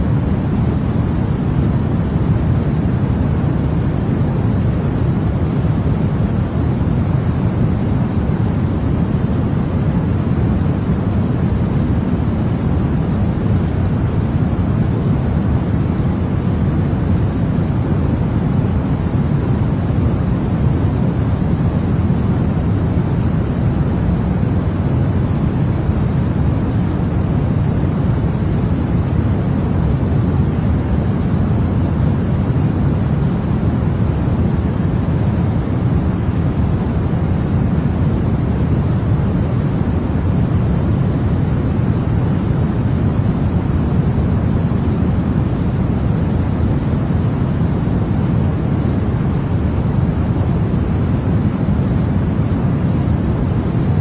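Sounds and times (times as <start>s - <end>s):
low white noise hiss: 0.0s - 54.0s.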